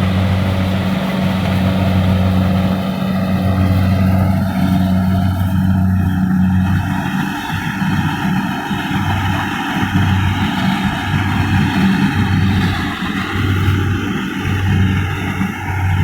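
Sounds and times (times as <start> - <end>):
combine harvester engine hum: 0.0 - 16.0
constant mechanical noise: 0.0 - 16.0.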